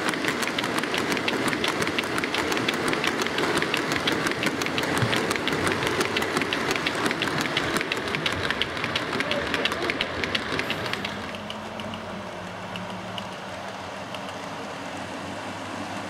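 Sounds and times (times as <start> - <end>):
steady running rattle: 0.0 - 14.6
model train wheels clicking on rails: 0.0 - 16.0.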